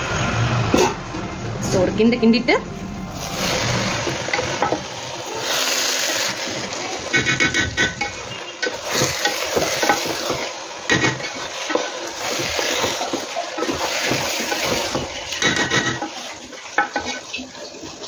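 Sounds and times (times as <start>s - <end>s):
hissing sizzle: 0.0s - 18.0s.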